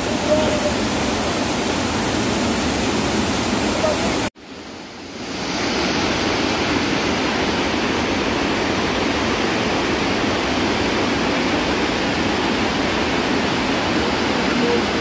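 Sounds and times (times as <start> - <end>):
water rushing down a cascade: 0.0 - 15.0.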